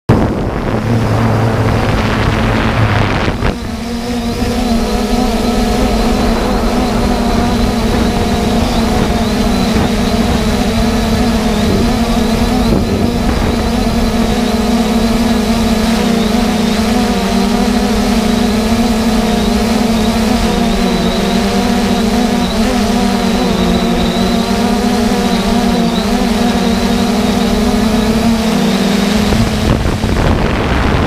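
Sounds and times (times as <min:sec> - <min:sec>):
drone propellers droning: 0:00.0 - 0:31.0
wind noise on microphone: 0:00.1 - 0:31.0.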